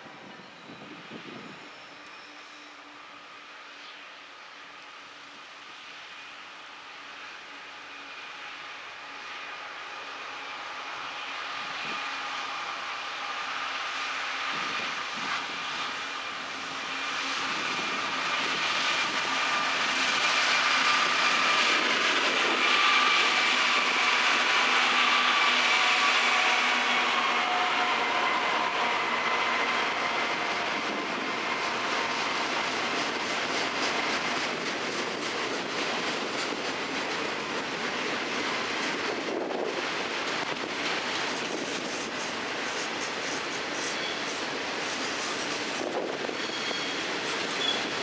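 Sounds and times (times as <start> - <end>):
diesel locomotives passing: 0.0 - 48.0.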